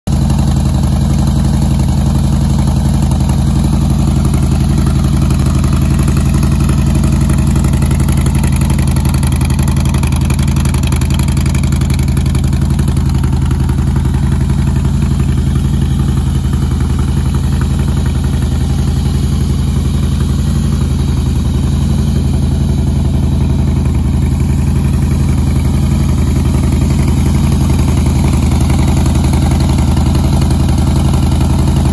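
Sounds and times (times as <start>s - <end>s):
motorcycle engine idling: 0.1s - 31.9s.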